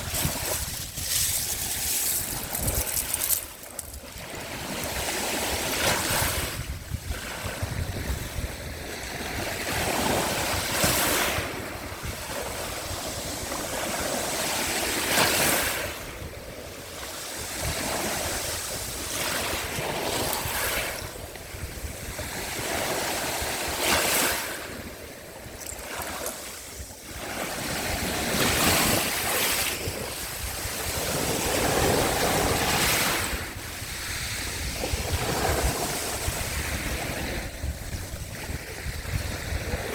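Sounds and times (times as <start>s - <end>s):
small waves washing ashore: 0.0s - 39.9s
wind on microphone: 0.0s - 39.9s.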